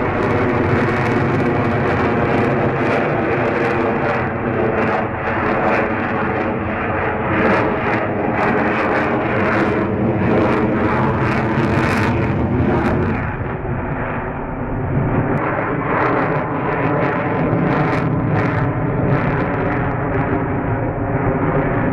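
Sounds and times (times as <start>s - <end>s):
jet engine roaring: 0.0s - 21.9s.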